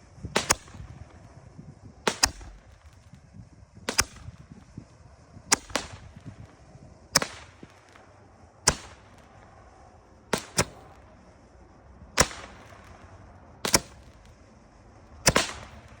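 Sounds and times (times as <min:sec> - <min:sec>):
firework shots popping: 0:00.0 - 0:16.0.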